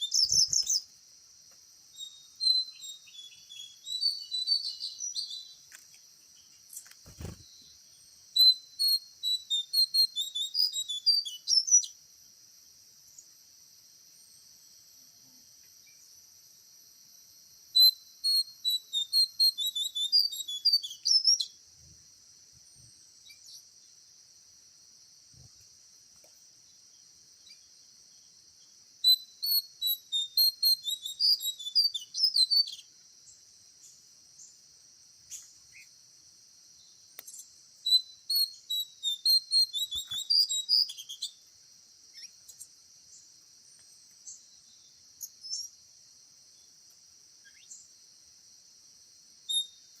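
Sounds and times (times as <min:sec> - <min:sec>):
songbird chirping: 0:00.0 - 0:17.0, 0:17.6 - 0:48.4, 0:49.4 - 0:50.0
high insect drone: 0:00.0 - 0:50.0.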